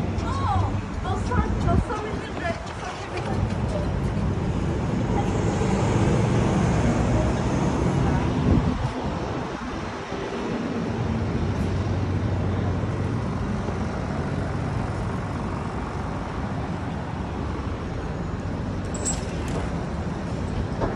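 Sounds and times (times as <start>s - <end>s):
cars and vans passing: 0.0s - 20.9s.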